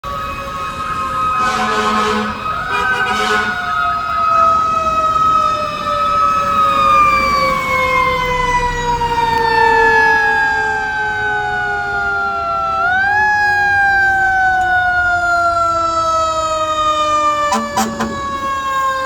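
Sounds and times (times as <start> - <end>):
fire engine siren wailing: 0.0 - 19.0
lower siren tone: 0.0 - 19.0.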